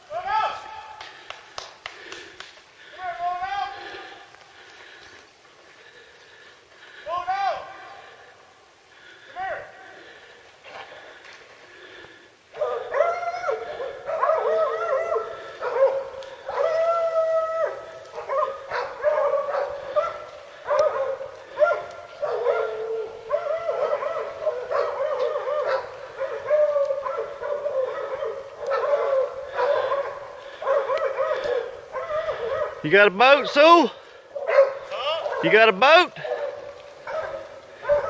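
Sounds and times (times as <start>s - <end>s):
hunting dogs baying: 5.8s - 38.0s.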